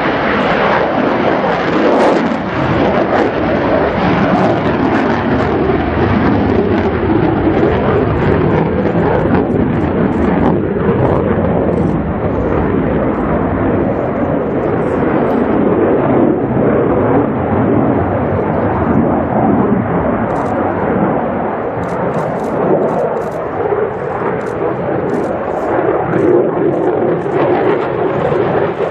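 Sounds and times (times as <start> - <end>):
fighter jet engine rumbling: 0.0 - 28.9.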